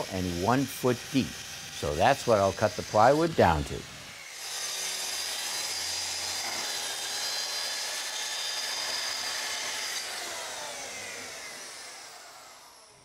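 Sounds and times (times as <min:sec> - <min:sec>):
track saw cutting plywood: 0:00.0 - 0:13.0.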